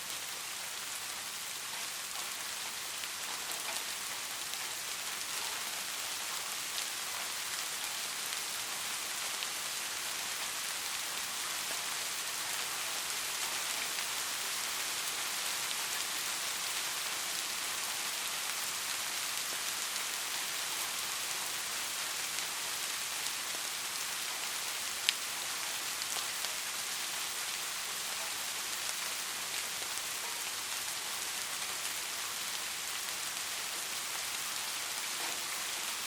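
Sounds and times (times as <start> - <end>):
light rain falling: 0.0 - 36.0.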